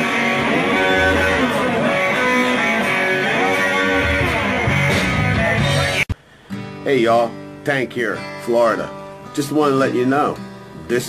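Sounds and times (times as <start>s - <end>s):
guitar-led music: 0.0s - 11.0s.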